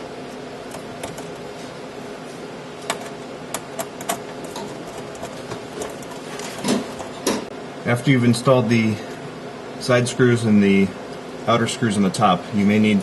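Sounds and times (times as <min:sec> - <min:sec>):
equipment hum: 0:00.0 - 0:13.0.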